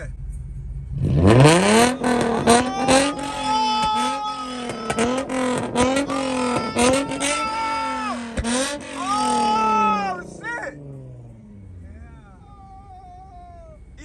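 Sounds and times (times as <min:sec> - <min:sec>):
car engine revving: 0:00.0 - 0:14.0
exhaust cracks: 0:00.0 - 0:14.0.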